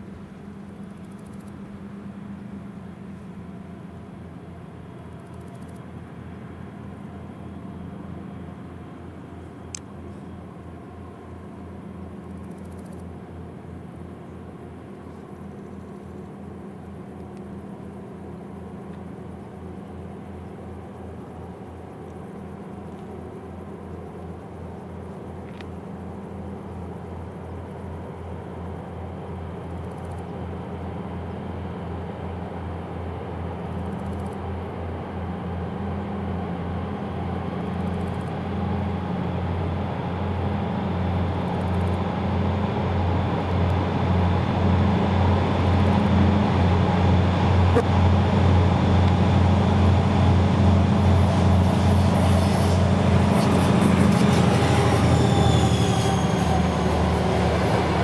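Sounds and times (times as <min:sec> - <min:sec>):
diesel locomotive engine droning: 0:00.0 - 0:58.0.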